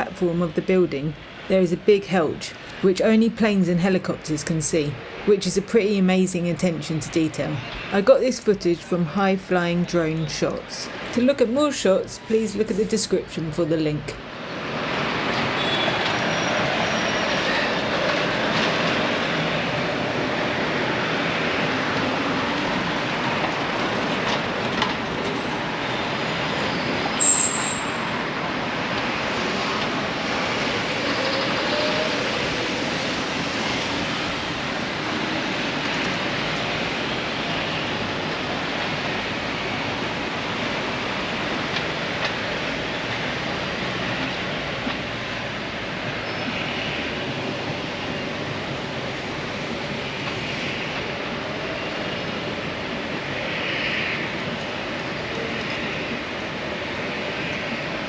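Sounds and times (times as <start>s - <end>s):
urban background rumble and hiss: 0.0s - 58.0s.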